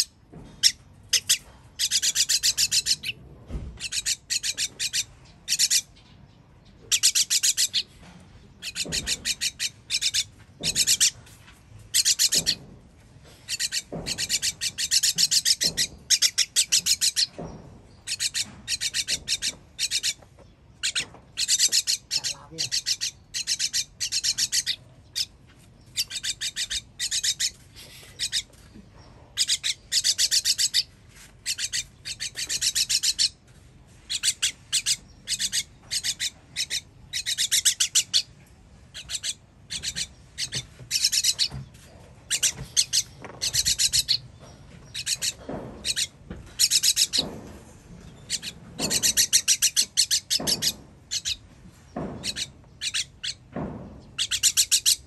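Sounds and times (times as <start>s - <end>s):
baby bird begging chirps: 0.0s - 3.2s, 3.8s - 6.0s, 6.9s - 7.9s, 8.6s - 11.2s, 11.9s - 12.6s, 13.4s - 20.2s, 20.8s - 28.6s, 29.3s - 33.4s, 34.1s - 41.6s, 42.3s - 47.3s, 48.2s - 51.4s, 52.2s - 53.5s, 54.2s - 55.0s.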